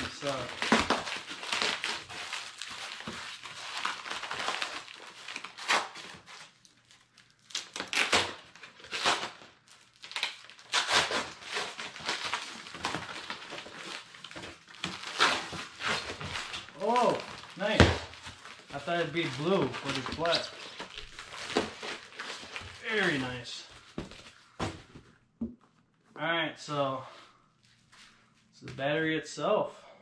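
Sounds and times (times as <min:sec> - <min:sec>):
foam and plastic bag rustling: 0:00.0 - 0:25.1.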